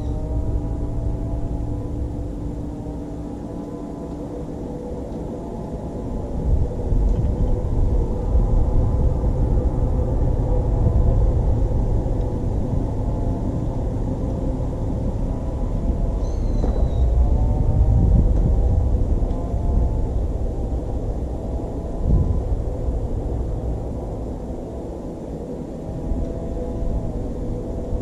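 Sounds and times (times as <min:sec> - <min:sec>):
outboard motor rumbling: 0:00.0 - 0:28.0
wind and water noise: 0:00.0 - 0:28.0.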